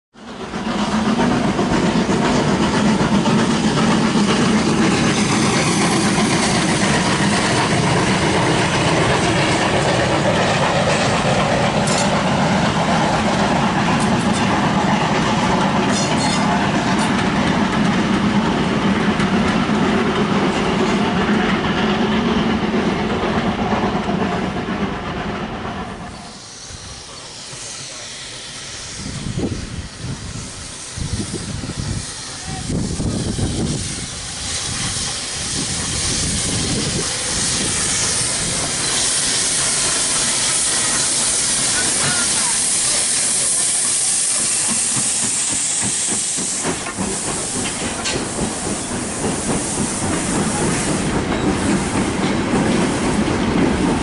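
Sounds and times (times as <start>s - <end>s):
train wheels running on rails: 0.2s - 54.0s.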